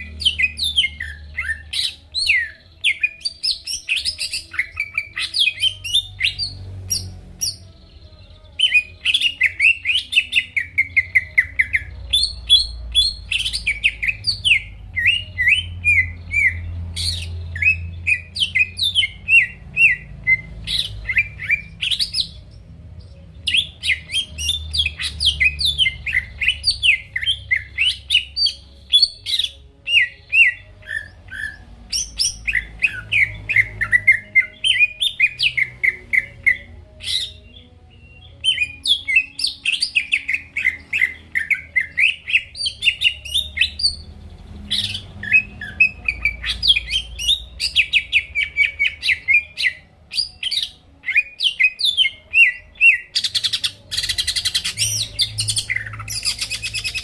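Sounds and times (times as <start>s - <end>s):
bird singing chirps and whistles: 0.0s - 57.0s.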